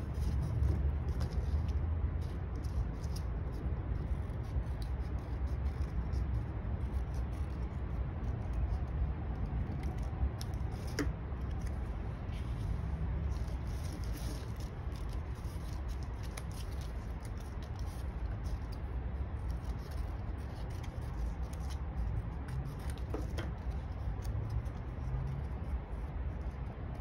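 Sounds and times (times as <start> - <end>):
paper rustling: 0.0 - 26.6
steady low hum: 0.0 - 27.0.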